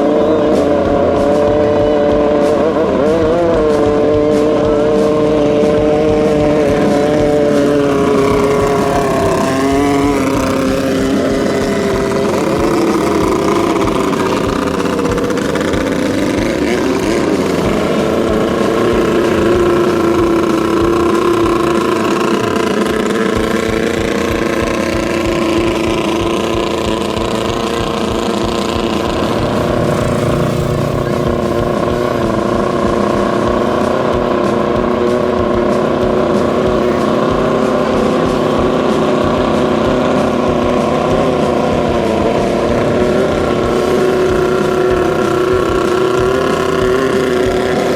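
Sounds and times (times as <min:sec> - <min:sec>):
speedboat engines racing: 0:00.0 - 0:47.9.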